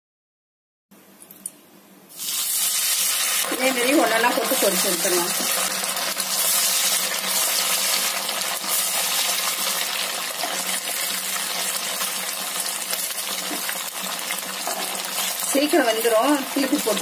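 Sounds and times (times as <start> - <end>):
hot oil sizzling and crackling: 2.1 - 17.0.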